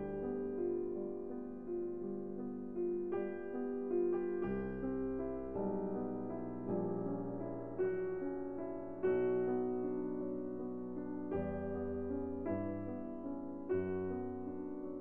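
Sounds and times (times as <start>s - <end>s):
soft instrumental music: 0.0s - 15.0s.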